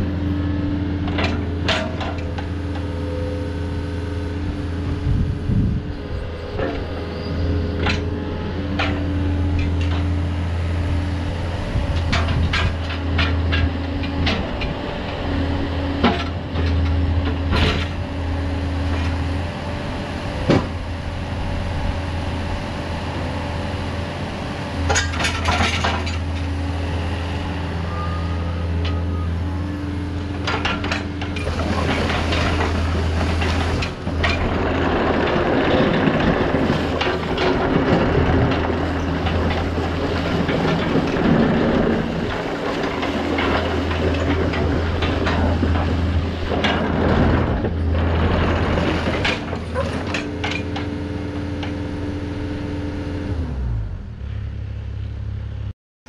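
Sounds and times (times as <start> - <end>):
excavator diesel engine running: 0.0 - 55.7.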